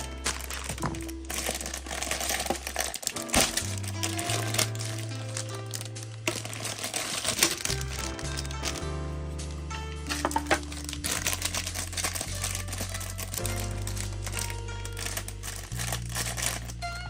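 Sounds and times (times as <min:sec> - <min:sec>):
plastic packaging crinkling: 0:00.0 - 0:08.8, 0:10.0 - 0:17.0
background music with bass: 0:00.0 - 0:17.0.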